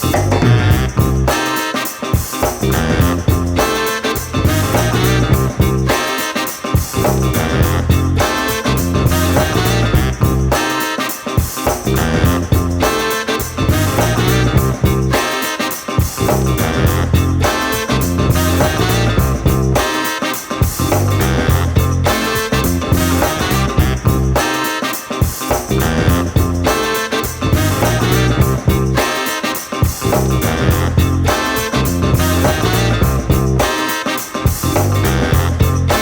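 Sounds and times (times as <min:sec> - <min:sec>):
upbeat guitar music: 0:00.0 - 0:36.0.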